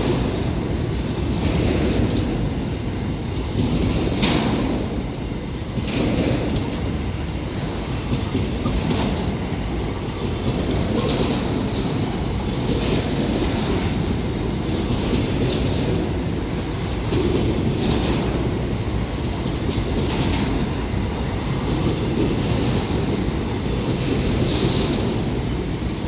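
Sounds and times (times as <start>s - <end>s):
freight train rumbling: 0.0s - 26.0s
wheels clacking over rail joints: 0.0s - 26.0s.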